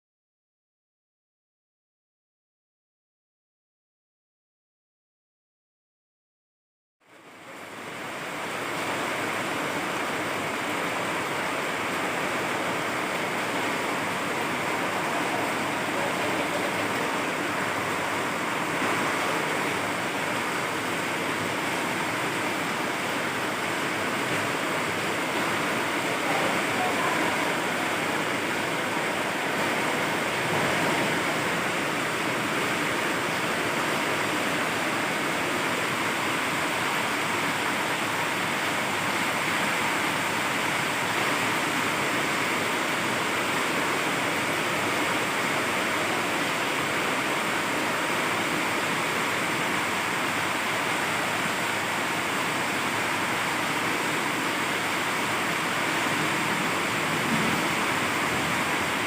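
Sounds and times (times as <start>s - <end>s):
heavy rain pouring: 7.0s - 59.0s.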